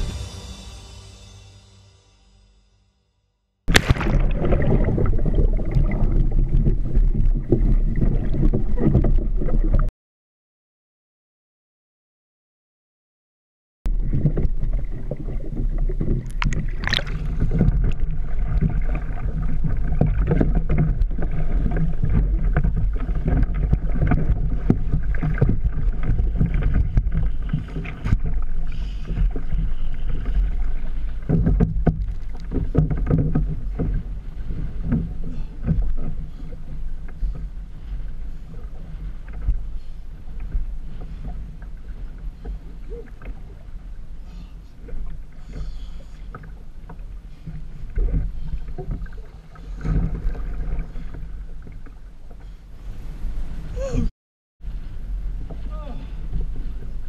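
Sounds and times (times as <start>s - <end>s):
waves splashing against kayak: 3.7s - 9.9s, 13.9s - 53.8s
wind rumbling on microphone: 3.7s - 9.9s, 13.9s - 44.2s, 46.5s - 57.0s.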